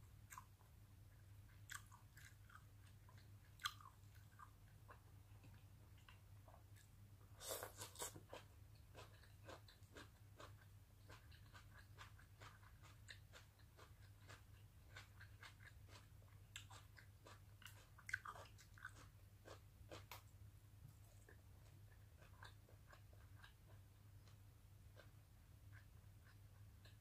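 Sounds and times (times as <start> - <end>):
chewing and crunching food: 0.2 - 27.0.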